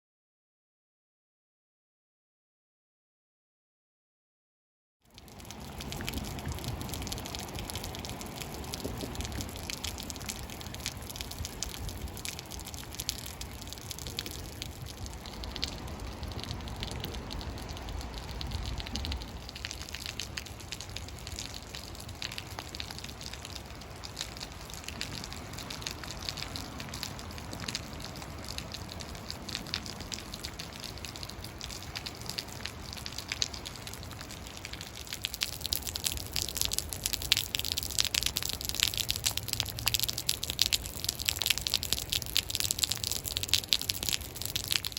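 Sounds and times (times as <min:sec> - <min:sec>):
steady wash of water: 0:05.2 - 0:44.9.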